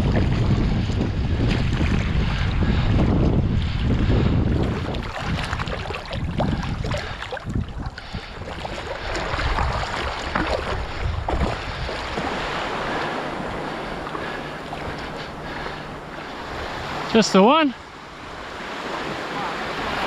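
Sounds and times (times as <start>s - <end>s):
waves washing in shallows: 0.0s - 20.0s
wind buffeting microphone: 0.0s - 20.0s.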